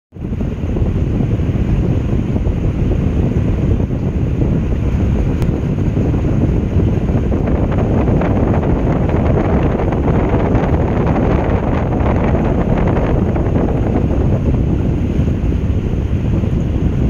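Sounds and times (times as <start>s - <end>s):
air cooler fan wind noise: 0.1s - 17.0s.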